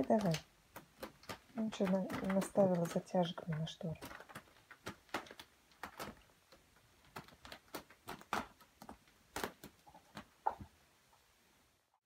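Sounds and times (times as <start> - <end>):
kitten claws scratching curtains: 0.0 - 10.3.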